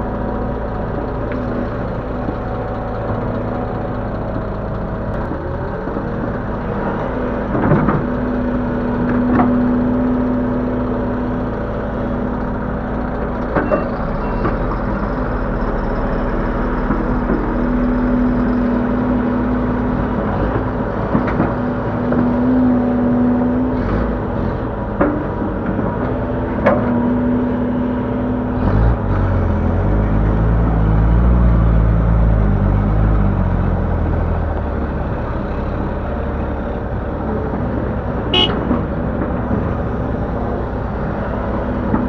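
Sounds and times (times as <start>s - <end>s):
excavator diesel engine: 0.0s - 42.0s.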